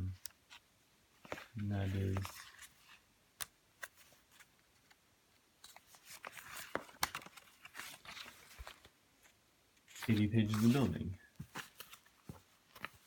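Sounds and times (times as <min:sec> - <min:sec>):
booklet pages rustling: 0:00.1 - 0:13.0.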